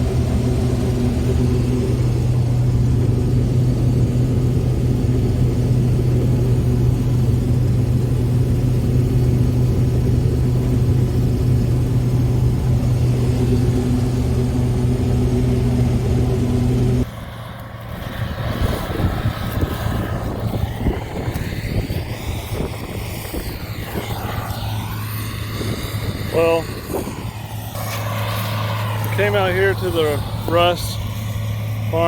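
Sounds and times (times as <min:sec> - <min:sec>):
engine running: 0:00.0 - 0:32.0
uneven rumble: 0:00.0 - 0:32.0.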